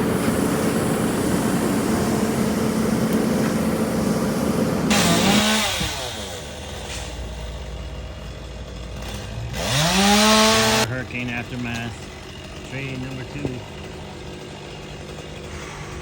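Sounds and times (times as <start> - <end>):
chainsaw revving and idling: 0.0 - 16.0.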